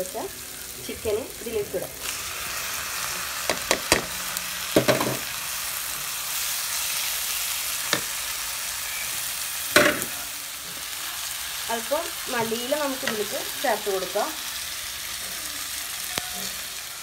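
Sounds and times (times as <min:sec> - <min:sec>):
chicken sizzling in a hot pan: 0:00.0 - 0:17.0.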